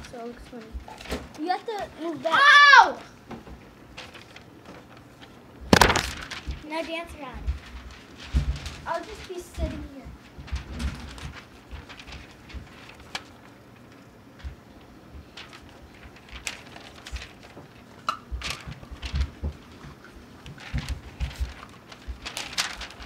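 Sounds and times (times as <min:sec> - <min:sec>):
paper rustling and flapping: 0:00.0 - 0:23.0.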